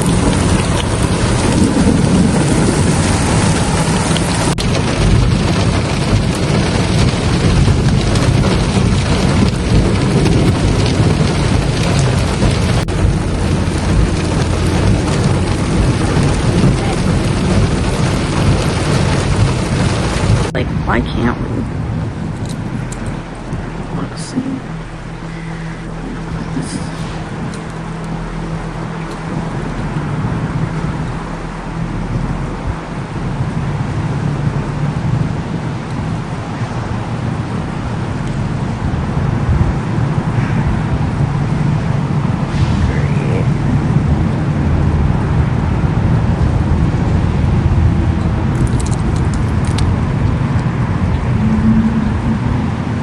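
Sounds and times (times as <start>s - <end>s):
heavy rain pouring: 0.0s - 53.0s
low rumble: 0.0s - 53.0s.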